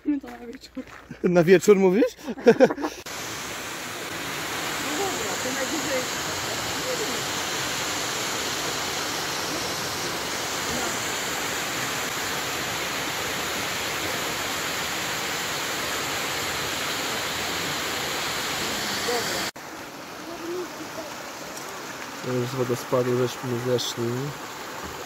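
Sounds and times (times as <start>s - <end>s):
waterfall rushing: 2.8s - 25.0s.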